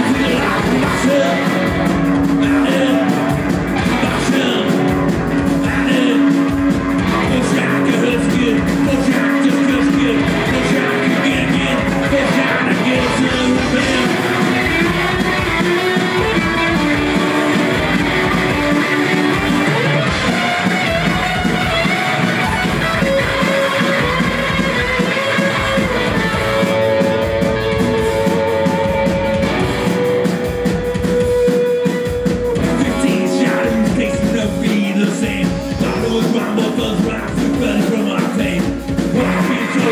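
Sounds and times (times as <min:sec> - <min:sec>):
punk rock band playing live: 0:00.0 - 0:39.9.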